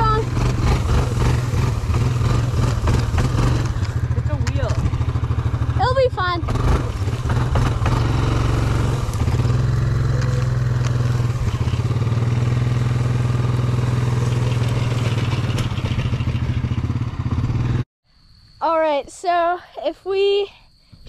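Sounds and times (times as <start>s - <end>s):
atv engine running: 0.0s - 17.8s.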